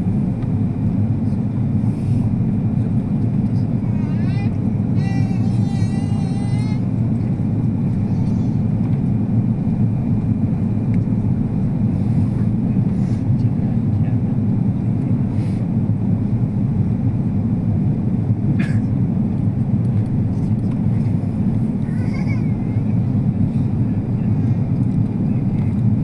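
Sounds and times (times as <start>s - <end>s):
jet cabin engine rumble: 0.0s - 26.0s.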